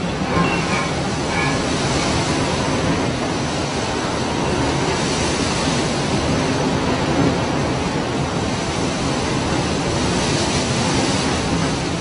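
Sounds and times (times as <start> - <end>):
breaking waves: 0.0 - 12.0
wind: 0.0 - 12.0.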